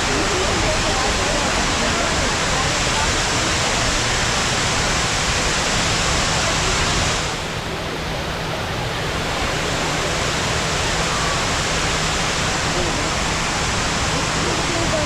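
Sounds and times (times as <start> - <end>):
large waterfall rushing: 0.0 - 15.0.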